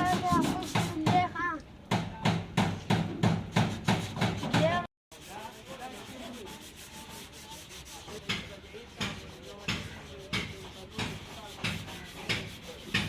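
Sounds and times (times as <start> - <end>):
sandpaper rubbing on a panel: 0.0 - 1.3, 3.5 - 13.0.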